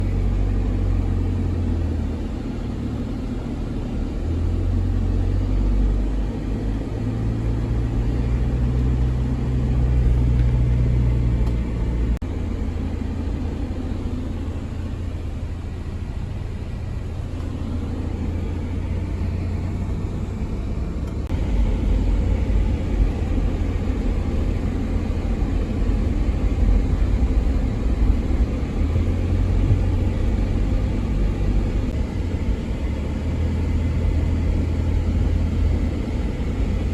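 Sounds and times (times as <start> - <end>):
steady low rumble: 0.0 - 36.9.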